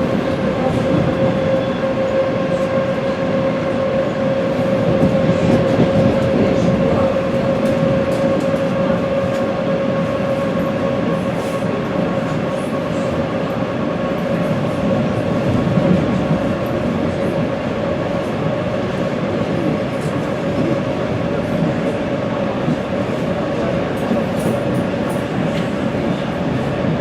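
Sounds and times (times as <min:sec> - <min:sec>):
electric train running: 0:00.0 - 0:27.0.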